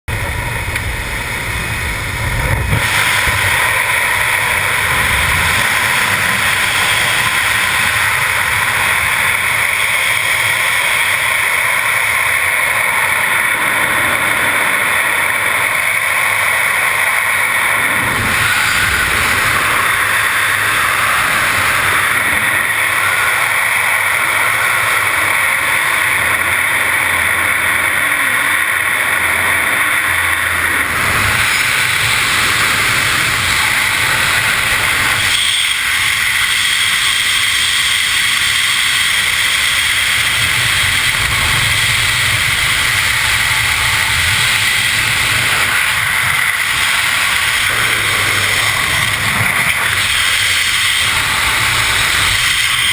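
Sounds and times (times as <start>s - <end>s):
wind roaring over microphone: 0.1s - 52.9s.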